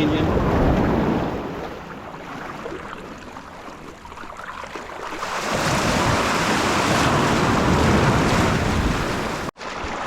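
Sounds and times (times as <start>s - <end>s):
surf washing in shallows: 0.0s - 10.0s.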